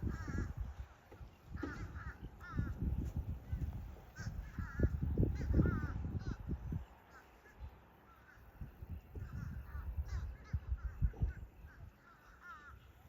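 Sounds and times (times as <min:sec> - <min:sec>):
bird harsh cries: 0:01.4 - 0:02.8, 0:03.5 - 0:13.0.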